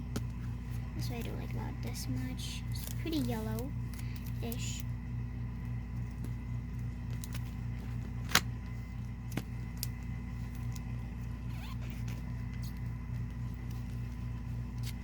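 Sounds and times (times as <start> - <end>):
steady low hum: 0.0 - 15.0
tape and paper handling: 0.1 - 4.9, 5.7 - 15.0.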